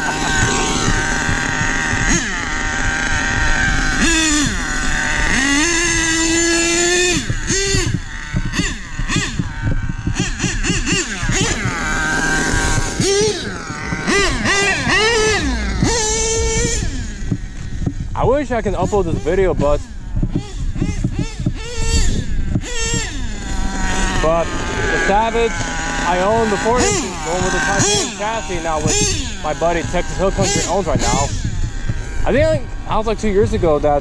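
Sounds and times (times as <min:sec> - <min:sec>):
rc truck engine revving: 0:00.0 - 0:34.0.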